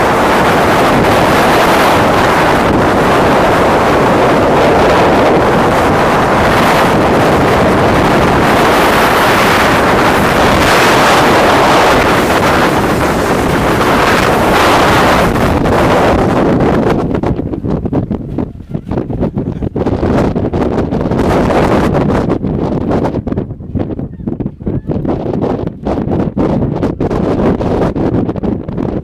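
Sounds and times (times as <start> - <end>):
wind blasting microphone: 0.0 - 29.0.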